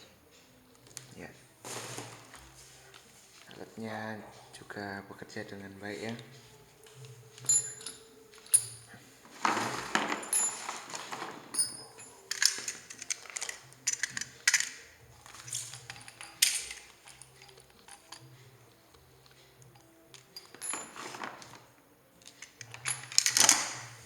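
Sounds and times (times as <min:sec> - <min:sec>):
small hard items clinking: 0:00.8 - 0:03.8, 0:06.0 - 0:24.0.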